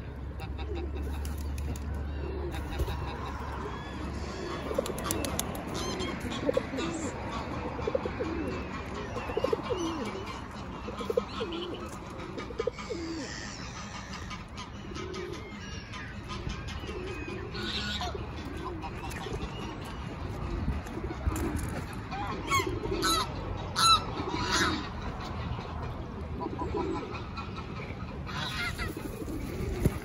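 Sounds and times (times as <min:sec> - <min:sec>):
pigeons cooing: 0:00.2 - 0:30.0.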